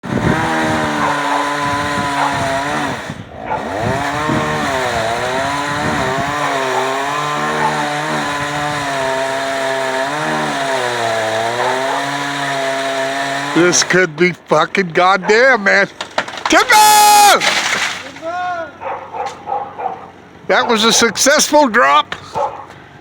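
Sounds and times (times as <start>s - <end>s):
chainsaw cutting wood: 0.0s - 18.4s.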